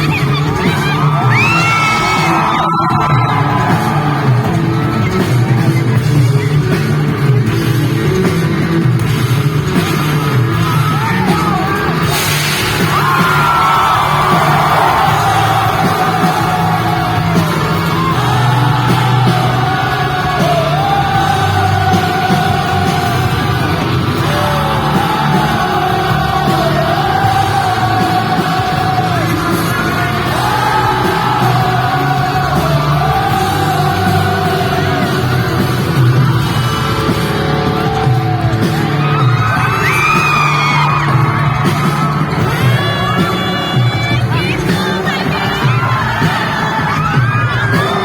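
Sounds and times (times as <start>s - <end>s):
live pop rock band: 0.0s - 48.0s.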